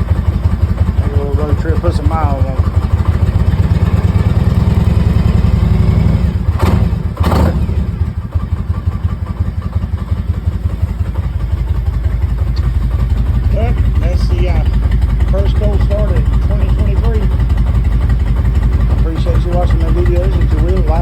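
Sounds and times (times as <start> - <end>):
short engine clatters: 0.0 - 11.5, 12.2 - 21.0
motorcycle engine idling: 0.0 - 21.0.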